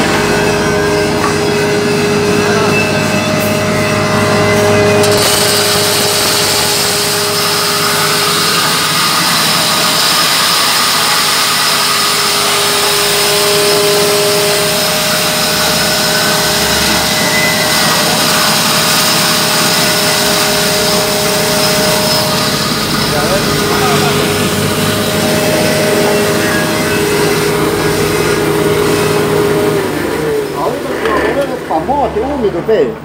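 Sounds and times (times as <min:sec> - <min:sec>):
electric mill grinding corn: 0:00.0 - 0:32.4.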